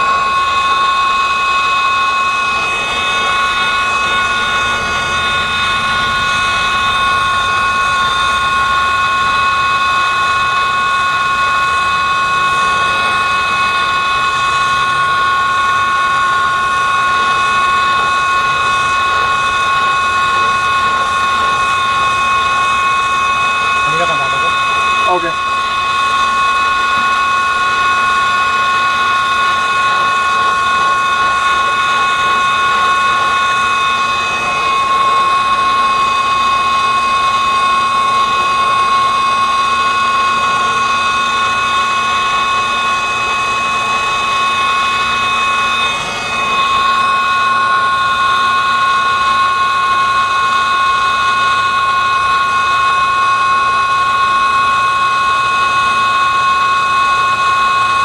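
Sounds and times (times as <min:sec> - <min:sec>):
gas hissing: 0:00.0 - 0:55.6
gas flow whistling: 0:00.0 - 0:58.0.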